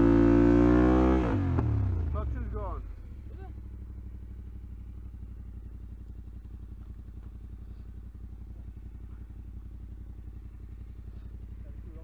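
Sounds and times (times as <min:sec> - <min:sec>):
motorcycle engine idling: 0:01.3 - 0:12.0.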